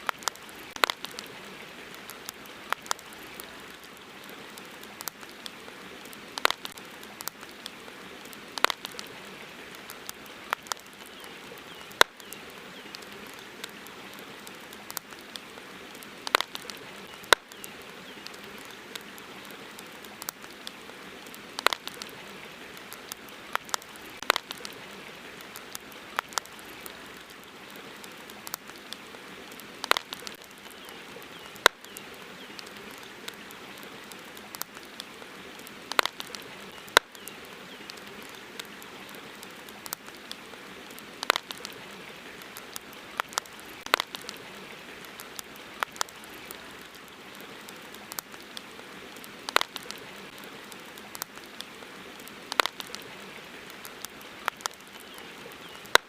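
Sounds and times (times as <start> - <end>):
campfire crackling and popping: 0.0 - 56.0
steady fire hiss: 0.0 - 56.0.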